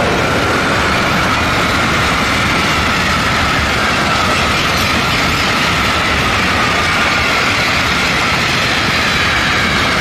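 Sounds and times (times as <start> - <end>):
train wheels rushing on rail: 0.0 - 10.0.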